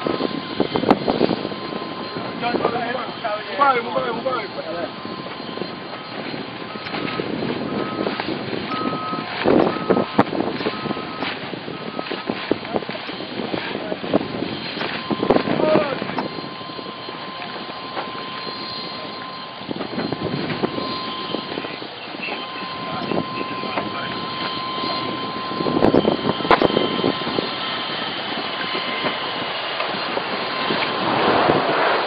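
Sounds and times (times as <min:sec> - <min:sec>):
steady rushing background noise: 0:00.0 - 0:32.0.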